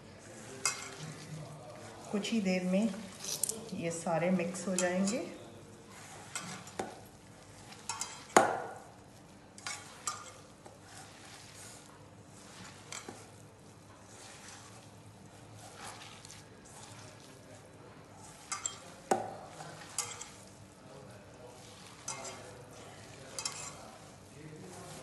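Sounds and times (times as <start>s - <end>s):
hands mixing crumbs in a bowl: 0.0s - 25.0s.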